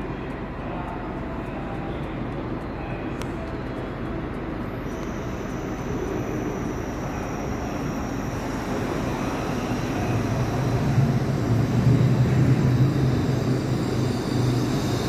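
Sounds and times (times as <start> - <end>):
train approaching rumble: 0.0 - 15.0.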